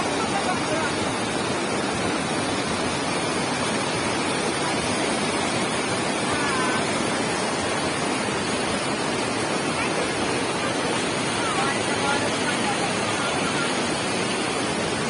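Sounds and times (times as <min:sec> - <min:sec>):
stream rushing over boulders: 0:00.0 - 0:15.0.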